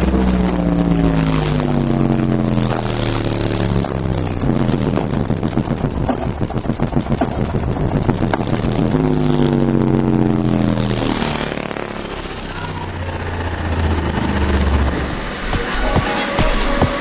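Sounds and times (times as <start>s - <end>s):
subwoofer playing deep bass: 0.0s - 17.0s.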